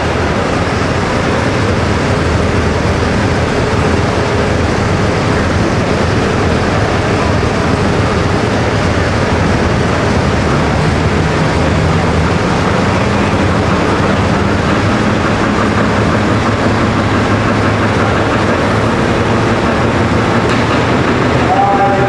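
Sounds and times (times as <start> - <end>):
diesel engine idling loudly: 0.0 - 22.0.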